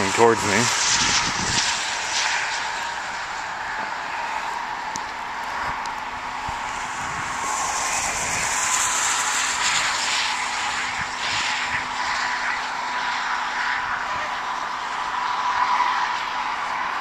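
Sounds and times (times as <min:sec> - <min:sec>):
traffic hissing on slush: 0:00.0 - 0:17.0
wind rushing over microphone: 0:00.0 - 0:17.0.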